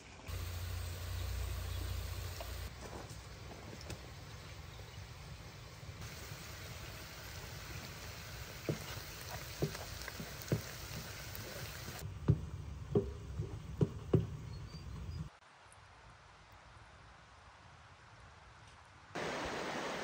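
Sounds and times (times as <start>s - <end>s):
steady background hiss: 0.0s - 14.0s, 15.3s - 20.0s.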